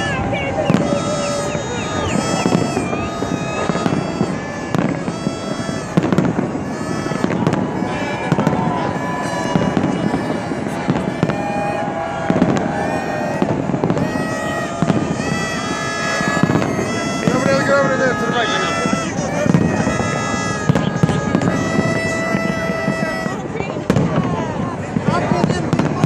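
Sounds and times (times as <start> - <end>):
long held tones: 0.0 - 23.8
crowd noise: 0.0 - 26.0
fireworks bangs and crackles: 0.0 - 26.0.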